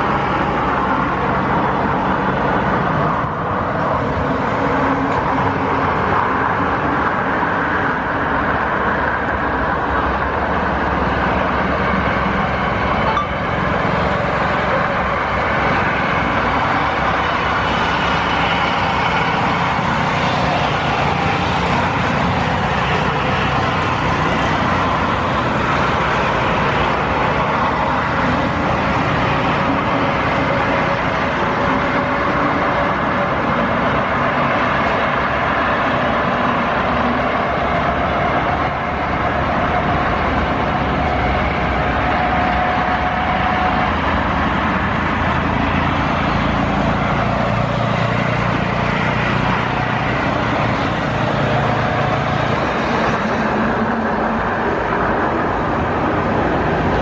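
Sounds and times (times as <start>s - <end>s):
jet engines climbing: 0.0s - 57.0s.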